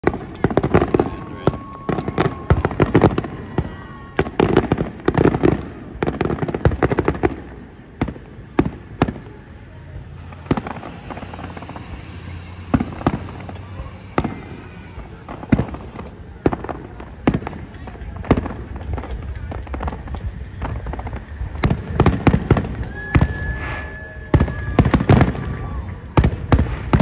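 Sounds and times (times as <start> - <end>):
firework bangs and crackles: 0.0 - 27.0
firework booms: 0.0 - 27.0.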